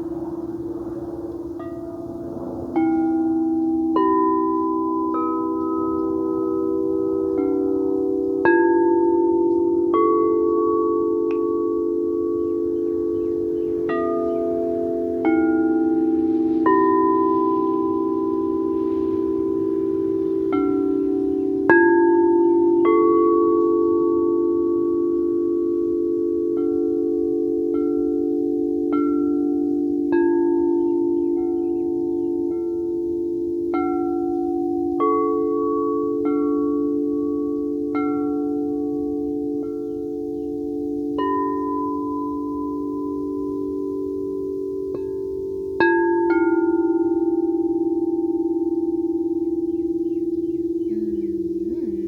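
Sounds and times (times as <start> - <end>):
singing bowls ringing: 0.0 - 52.0.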